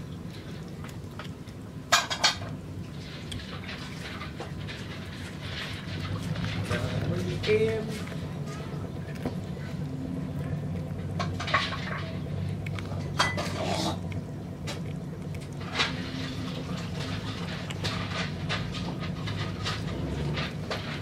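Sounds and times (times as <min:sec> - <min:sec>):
kitten chewing fish: 0:00.0 - 0:21.0
steady low hum: 0:00.0 - 0:21.0.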